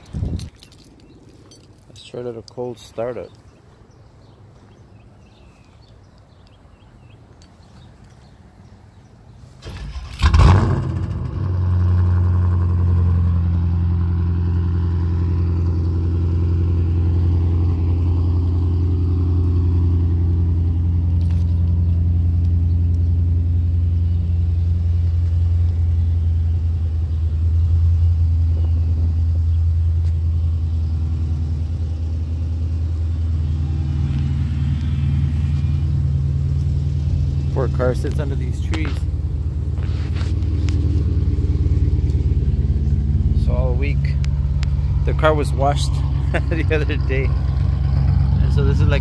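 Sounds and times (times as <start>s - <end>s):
car engine idling: 9.7s - 49.0s.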